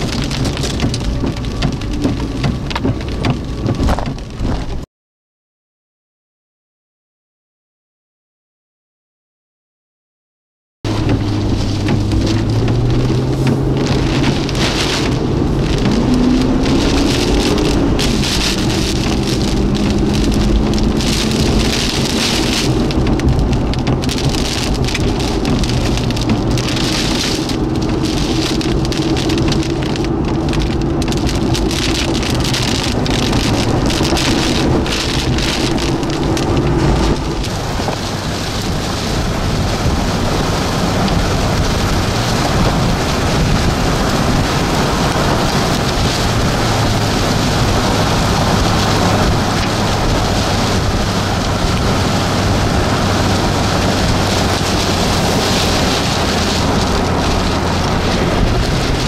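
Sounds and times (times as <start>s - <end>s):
low engine hum: 0.0s - 4.8s, 10.9s - 59.0s
rain pelting car windshield: 0.0s - 4.9s, 10.9s - 59.0s.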